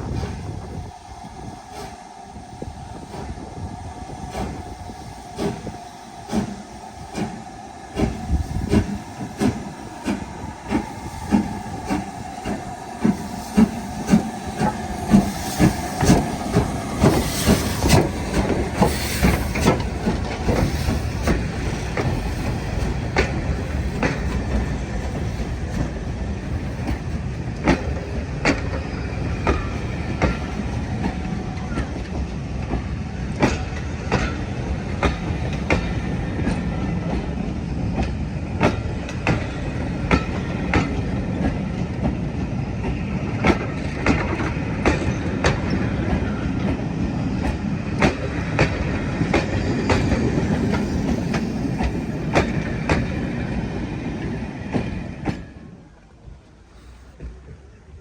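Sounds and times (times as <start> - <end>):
train rumble: 0.0 - 58.0
train wheels clicking over rail joints: 1.7 - 57.7.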